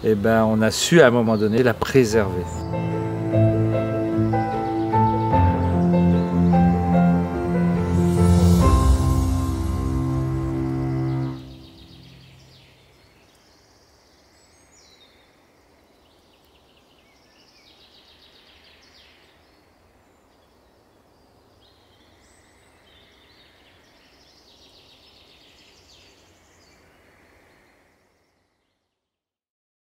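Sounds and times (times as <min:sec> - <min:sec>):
songbirds singing: 0:00.0 - 0:08.0, 0:10.2 - 0:29.0.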